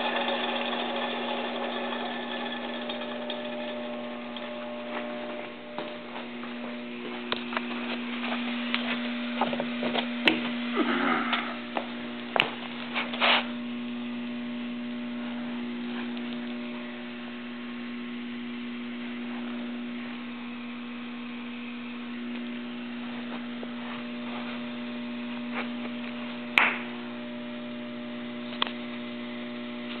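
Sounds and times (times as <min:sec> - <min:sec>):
machinery electrical hum: 0:00.0 - 0:30.0.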